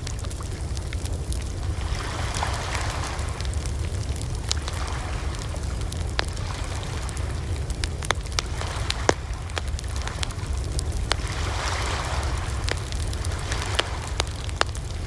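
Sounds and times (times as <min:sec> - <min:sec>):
low rumble of flames: 0:00.0 - 0:15.0
sharp pops from fire: 0:00.0 - 0:15.0
soft hiss: 0:00.0 - 0:15.0
wood fire crackling: 0:00.0 - 0:15.0.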